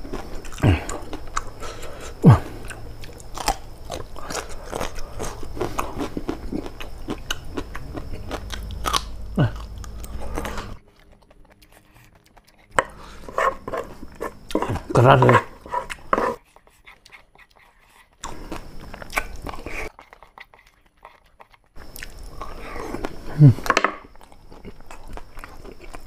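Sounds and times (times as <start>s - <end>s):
close chewing and crunching: 0.0s - 26.0s.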